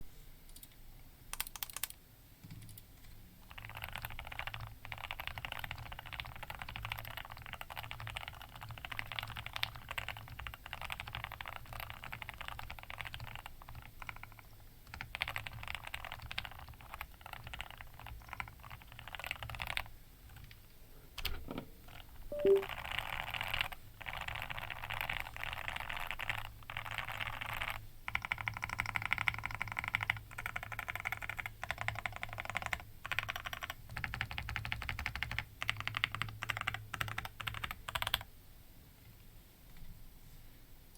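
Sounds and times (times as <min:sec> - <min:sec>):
mechanical keyboard typing: 0:00.5 - 0:20.6, 0:21.9 - 0:38.3.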